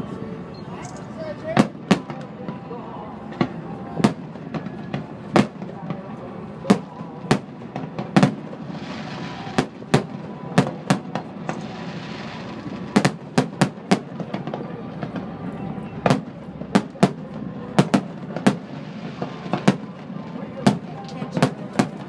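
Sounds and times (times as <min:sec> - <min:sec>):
fireworks bangs: 0:00.8 - 0:22.0.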